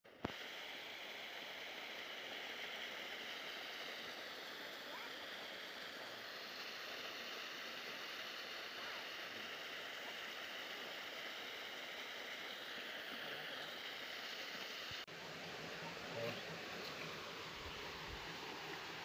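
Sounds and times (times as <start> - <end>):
waterfall splashing into pool: 0.1 - 19.0.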